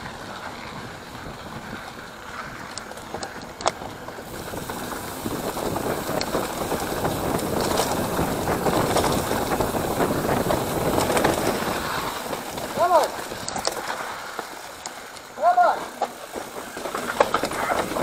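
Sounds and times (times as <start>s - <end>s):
bike rattling over bumps: 0.0s - 18.0s
bike tyres on dirt: 0.0s - 18.0s.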